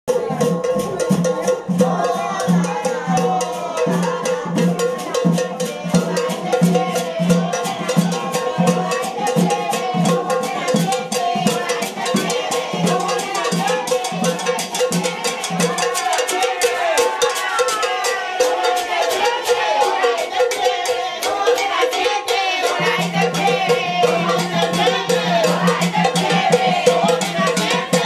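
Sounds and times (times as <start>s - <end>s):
latin carnival music: 0.0s - 28.0s
pulsing low drum beat: 0.1s - 21.8s, 22.4s - 28.0s
fast percussion ticking: 0.1s - 28.0s.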